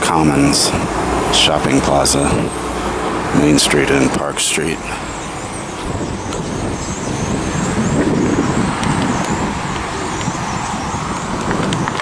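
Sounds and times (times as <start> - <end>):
road vehicles passing: 0.0 - 12.0.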